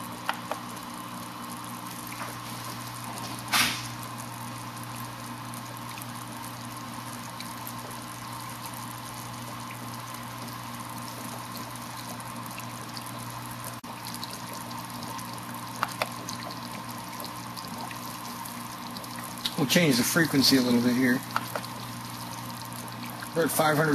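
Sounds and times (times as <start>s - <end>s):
electrical hum: 0.0s - 23.9s
electrolysis cell fizzing: 0.0s - 23.9s.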